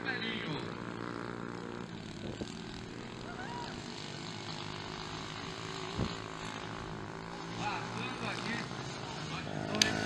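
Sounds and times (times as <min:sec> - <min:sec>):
motocross bike engines droning: 0:00.0 - 0:10.0.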